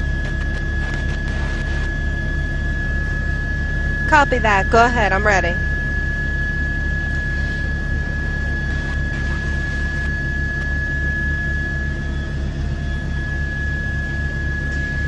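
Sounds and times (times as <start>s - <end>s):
helicopter turbine and rotor hum: 0.0s - 15.0s
high whine: 0.0s - 15.0s.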